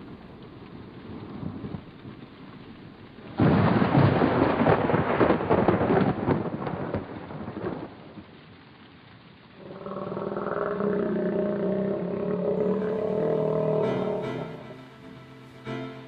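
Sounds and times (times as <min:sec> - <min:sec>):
thunderclap crack and rumble: 0:00.0 - 0:14.6.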